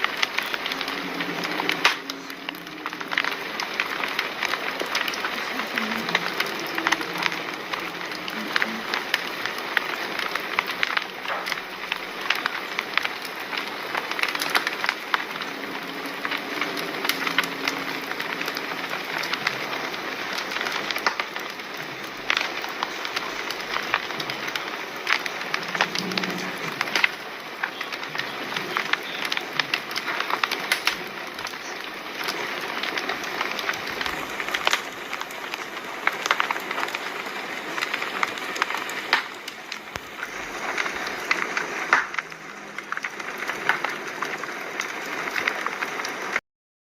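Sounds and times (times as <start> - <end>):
wood fire crackling and popping: 0.0 - 46.4.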